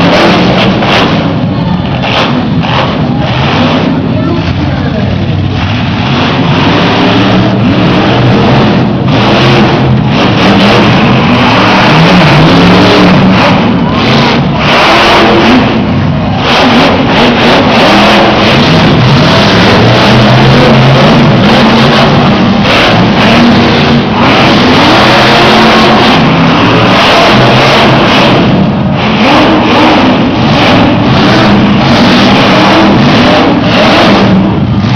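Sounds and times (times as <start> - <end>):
truck engines revving hard: 0.0 - 34.9.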